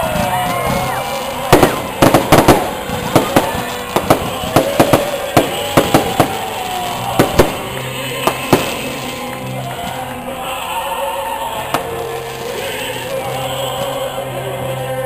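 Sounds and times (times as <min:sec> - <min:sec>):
fireworks bangs: 0:00.0 - 0:10.3, 0:11.5 - 0:14.3
music: 0:00.0 - 0:15.0.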